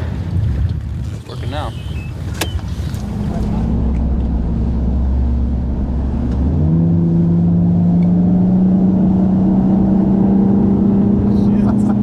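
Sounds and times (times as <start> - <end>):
wind and water rushing: 0.0 - 11.6
outboard motor running: 1.5 - 12.0.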